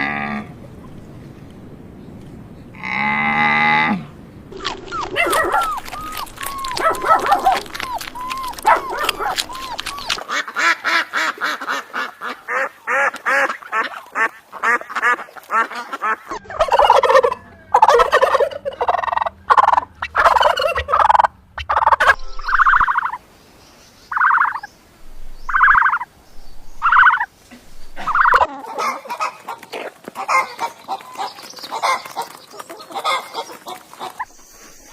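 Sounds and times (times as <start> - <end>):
poultry calling: 2.7 - 23.2, 25.5 - 26.1, 26.8 - 34.9.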